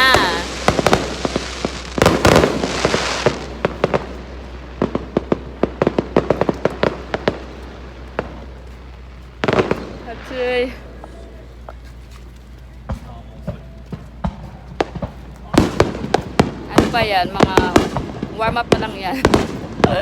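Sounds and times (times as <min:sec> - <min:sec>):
fireworks popping and crackling: 0:00.0 - 0:20.0
heavy firework burst: 0:00.0 - 0:20.0.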